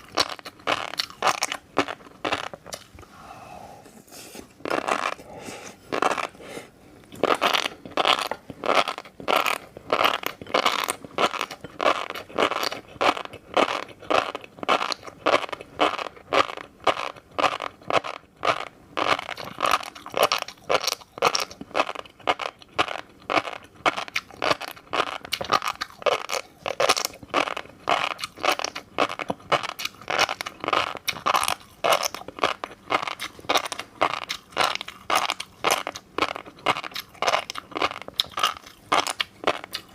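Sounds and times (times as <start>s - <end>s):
crunchy chewing: 0.0s - 3.1s, 4.6s - 39.9s.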